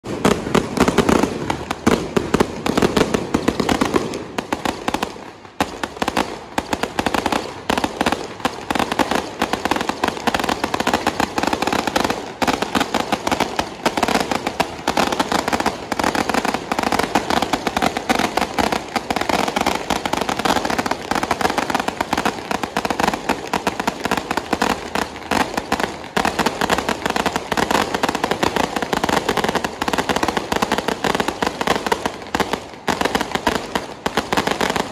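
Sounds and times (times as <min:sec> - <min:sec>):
firecrackers crackling and popping: 0:00.0 - 0:34.9.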